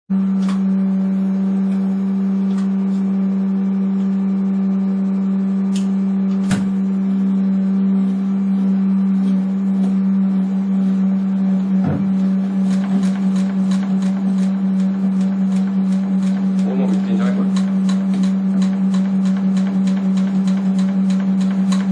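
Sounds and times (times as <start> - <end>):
loud low electrical hum: 0.1 - 21.9.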